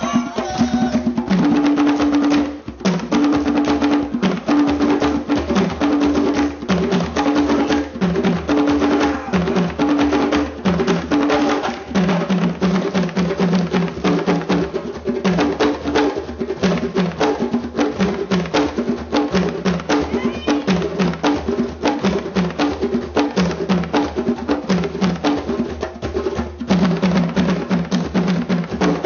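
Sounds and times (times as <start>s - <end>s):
fast percussion drumming: 0.0s - 29.0s.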